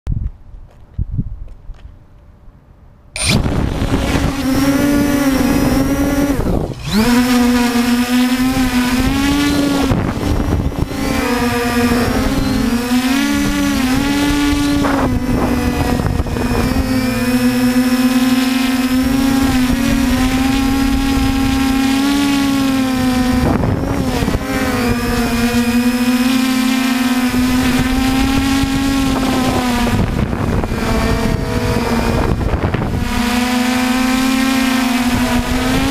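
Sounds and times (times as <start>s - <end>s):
drone motors whining: 3.2s - 35.9s.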